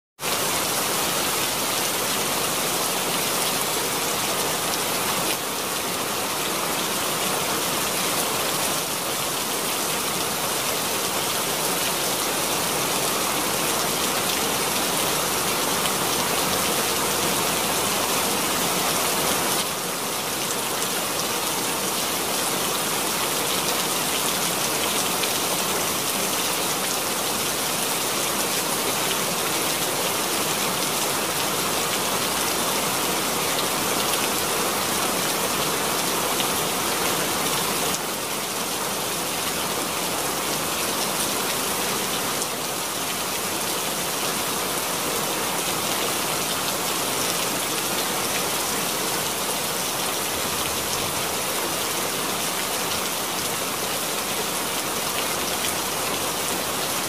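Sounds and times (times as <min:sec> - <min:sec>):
steady rain falling: 0:00.2 - 0:57.0.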